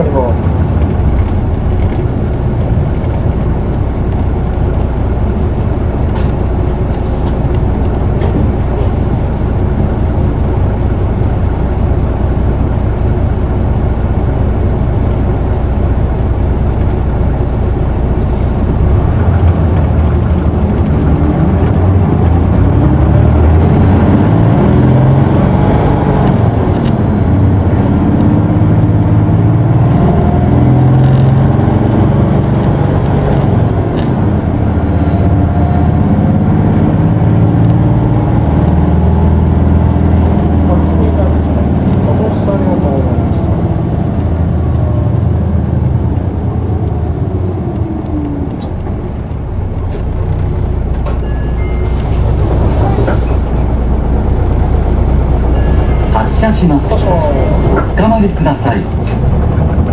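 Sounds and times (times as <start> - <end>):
bus diesel engine revving: 0.0 - 59.9.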